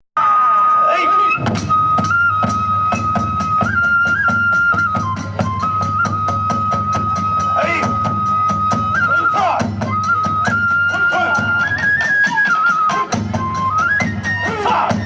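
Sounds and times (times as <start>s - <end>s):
fast percussion strikes: 0.2s - 15.0s
transverse flute high note: 0.2s - 15.0s.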